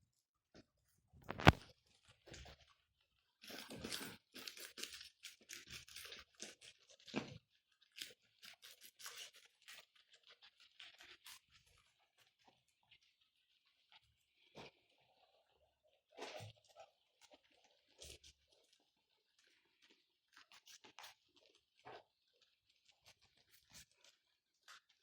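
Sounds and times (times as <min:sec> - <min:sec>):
guinea pigs chewing food: 0:01.2 - 0:25.0.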